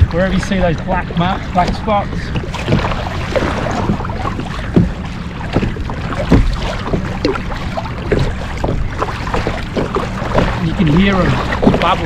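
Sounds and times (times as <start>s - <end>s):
fish splashing and bubbling: 0.0s - 12.0s
wind rumble on microphone: 0.0s - 12.0s.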